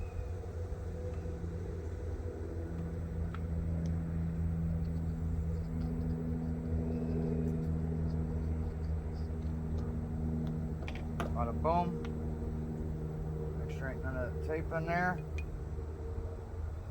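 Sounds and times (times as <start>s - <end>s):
engine humming: 0.0s - 16.9s.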